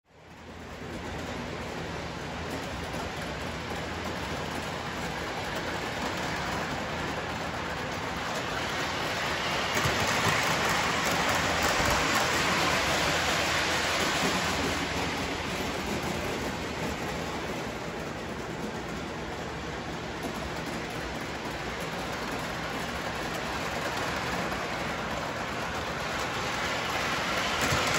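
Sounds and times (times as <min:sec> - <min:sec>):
model train running past: 0:00.1 - 0:27.9.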